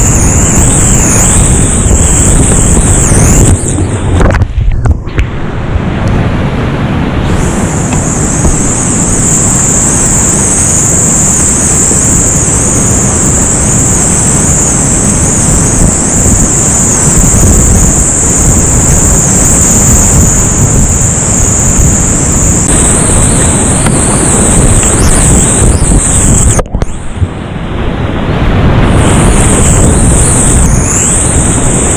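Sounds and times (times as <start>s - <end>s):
whitewater creek roaring: 0.0s - 31.9s
wind buffeting microphone: 0.0s - 31.9s.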